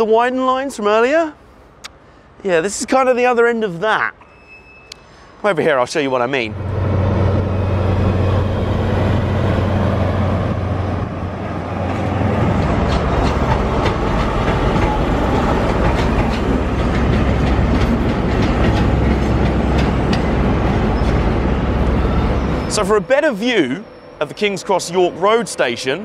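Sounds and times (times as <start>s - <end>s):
diesel train low hum: 4.2s - 26.0s.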